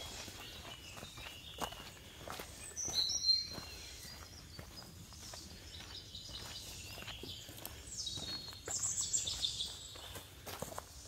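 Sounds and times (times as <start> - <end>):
birds chirping: 0.0 - 11.0
footsteps on rocky dirt trail: 0.0 - 11.0.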